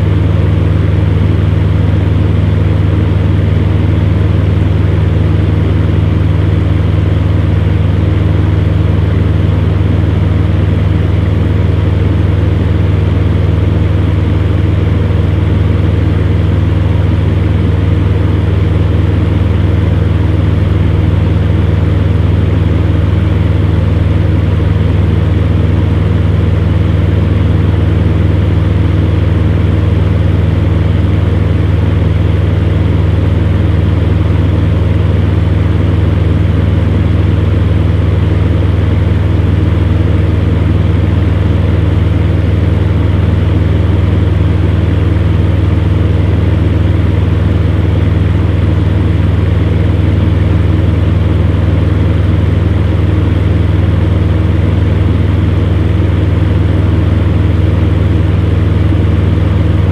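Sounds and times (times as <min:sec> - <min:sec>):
fan heater motor hum: 0:00.0 - 0:59.9.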